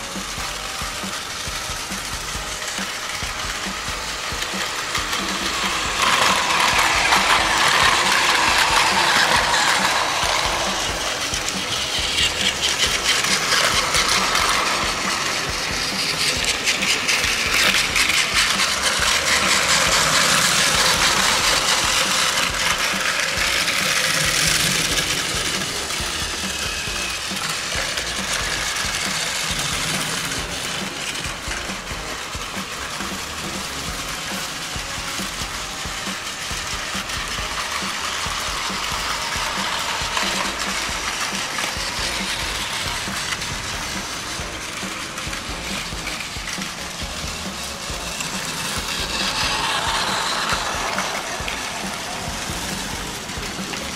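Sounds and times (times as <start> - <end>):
toy train motors whirring: 0.0 - 53.9
wheels rattling on plastic track: 0.0 - 53.9.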